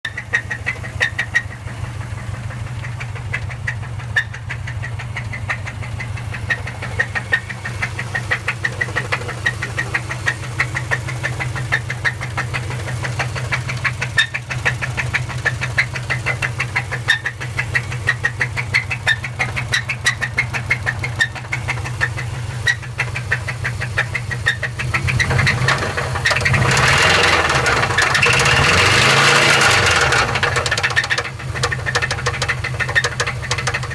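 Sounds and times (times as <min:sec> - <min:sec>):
car engine knocking: 0:00.0 - 0:33.9.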